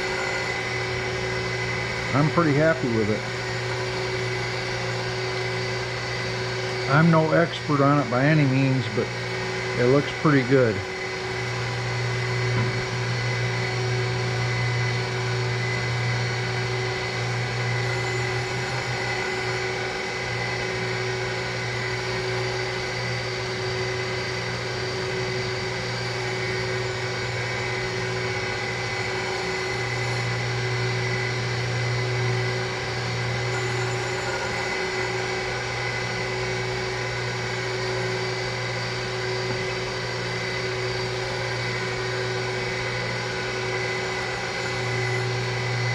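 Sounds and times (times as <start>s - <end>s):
grinder whining: 0.0s - 45.9s
surface grinder motor hum: 0.0s - 45.9s.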